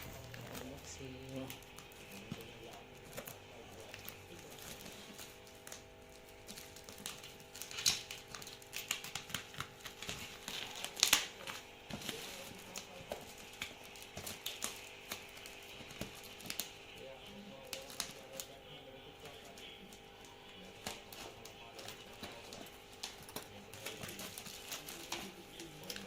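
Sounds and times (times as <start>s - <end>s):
packaging crinkles and taps: 0.0s - 18.6s, 19.2s - 26.0s.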